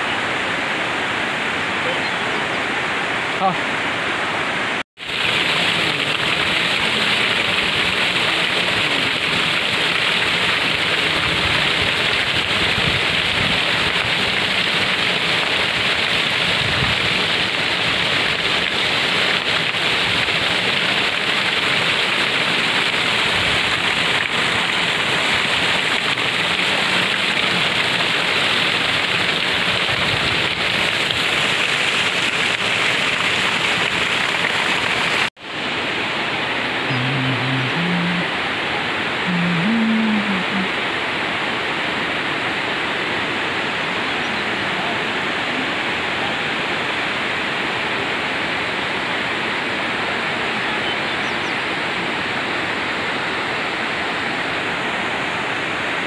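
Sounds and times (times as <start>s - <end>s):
waterfall rushing onto rocks: 0.0s - 56.0s.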